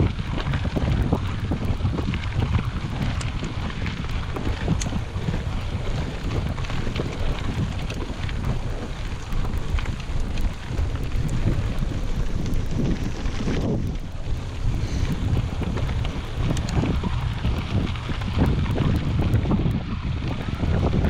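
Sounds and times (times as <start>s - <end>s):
stones and bike rattling: 0.0s - 21.0s
tyres rumbling on gravel: 0.0s - 21.0s
wind buffeting microphone: 0.0s - 21.0s.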